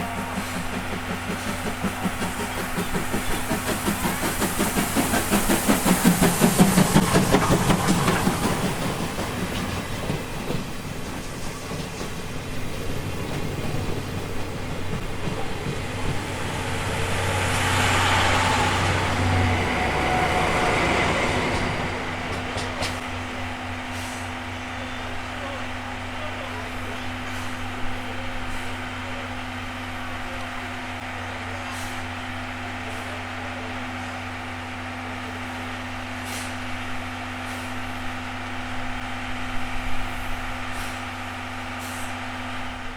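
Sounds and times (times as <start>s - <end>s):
train rushing past: 0.0s - 42.9s.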